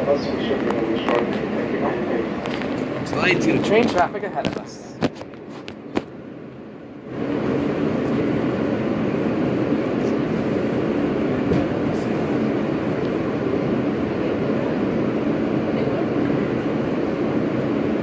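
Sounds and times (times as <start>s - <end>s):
subway train rumbling on track: 0.0s - 18.0s.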